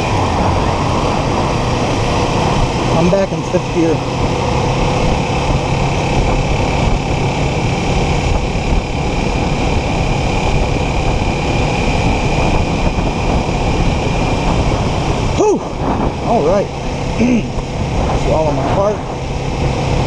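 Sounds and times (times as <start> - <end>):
motorcycle engine cruising: 0.0 - 20.0
wind rush on microphone: 0.0 - 20.0.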